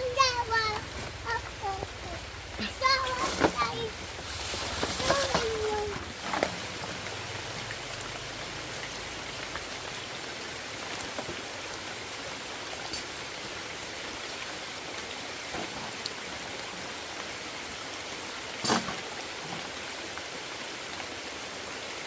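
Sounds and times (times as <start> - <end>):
steady water hiss: 0.0 - 22.0.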